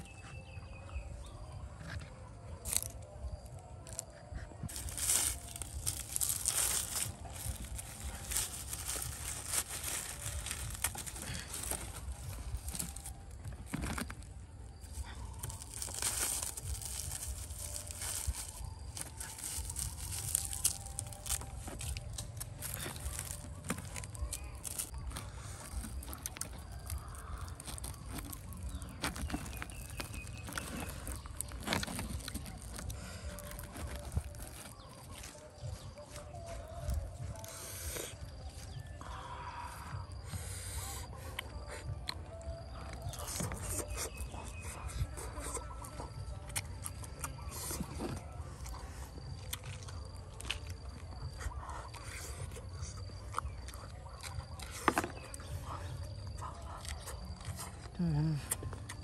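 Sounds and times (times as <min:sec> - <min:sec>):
dry corn husks tearing: 0:02.4 - 0:38.8, 0:42.7 - 0:59.0.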